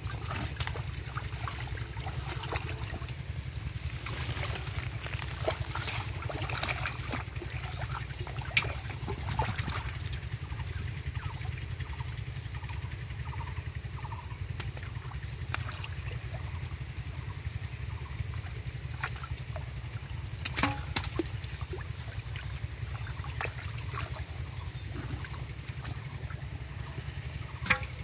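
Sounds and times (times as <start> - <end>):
water splashes: 0.0 - 11.8, 14.6 - 16.7, 18.1 - 28.0
hands sloshing in muddy water: 0.0 - 12.8, 18.0 - 28.0
low rumble: 0.0 - 28.0.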